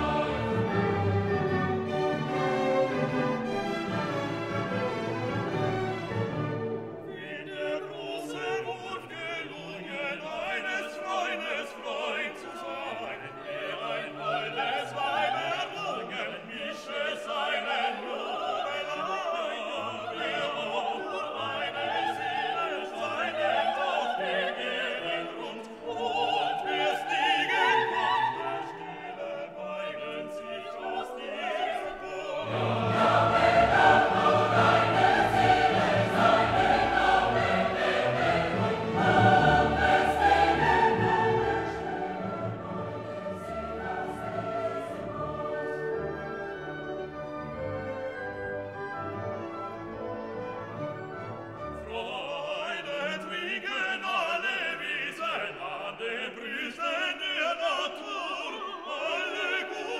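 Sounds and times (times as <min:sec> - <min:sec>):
classical music with singing: 0:00.0 - 0:59.9.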